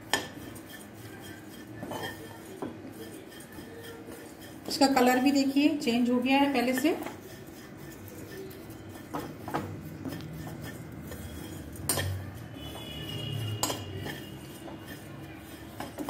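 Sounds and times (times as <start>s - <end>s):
spoon clinking against pan: 0.0s - 5.2s, 6.6s - 16.0s
spoon scraping oats in pan: 0.0s - 16.0s.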